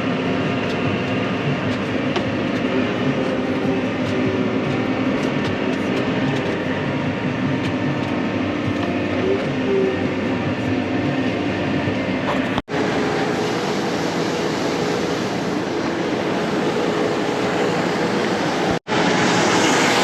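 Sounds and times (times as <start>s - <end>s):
heavy farm machinery drone: 0.0s - 20.0s.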